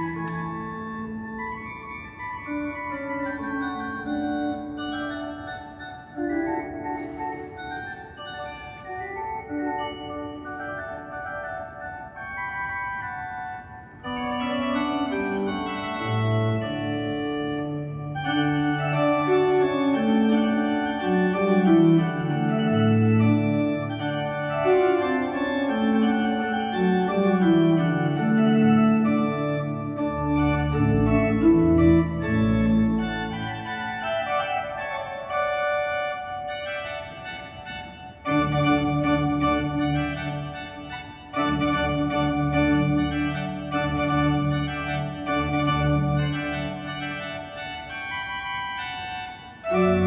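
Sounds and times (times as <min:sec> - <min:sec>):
deep organ pedal notes: 0:00.0 - 0:50.0
pipe organ playing lively melody: 0:00.0 - 0:50.0.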